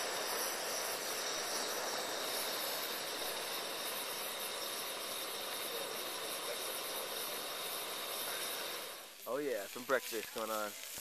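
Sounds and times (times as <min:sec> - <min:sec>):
gas stove burner hissing: 0:00.0 - 0:11.0.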